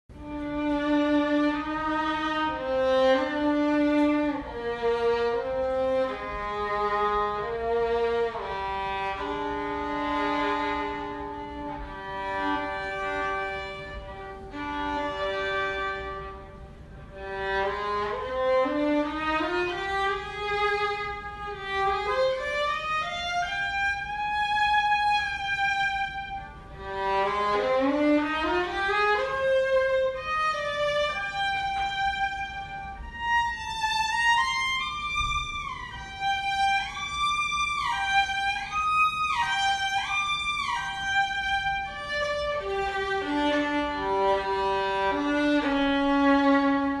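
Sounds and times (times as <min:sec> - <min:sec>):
violin melody: 0:00.1 - 0:47.0.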